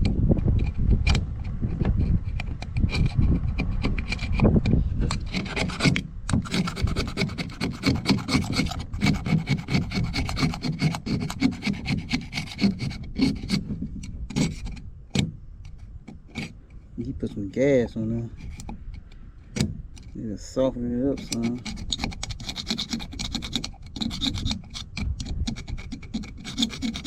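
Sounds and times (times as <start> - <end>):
hand tool scraping: 0.5 - 20.4, 21.0 - 27.0.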